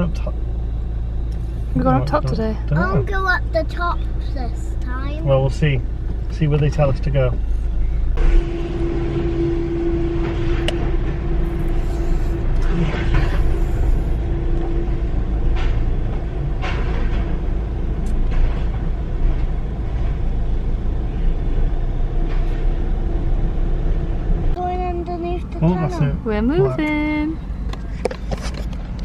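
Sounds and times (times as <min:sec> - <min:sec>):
car rumble from inside cabin: 0:00.0 - 0:29.0
steady hum: 0:00.0 - 0:29.0.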